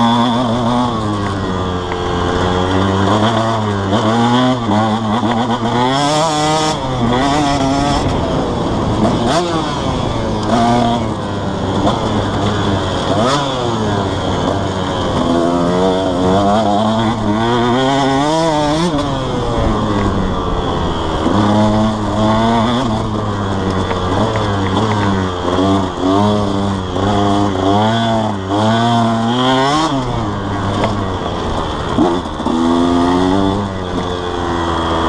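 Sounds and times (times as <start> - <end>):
motocross engine revving: 0.0 - 35.0.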